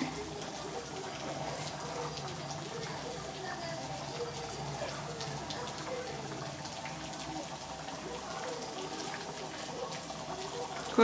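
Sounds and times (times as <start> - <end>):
curry simmering with bubbling pops: 0.0 - 11.0.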